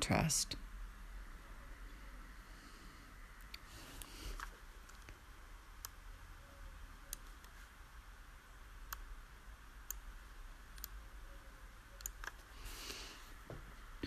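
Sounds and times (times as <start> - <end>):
soft hiss: 0.0 - 14.0.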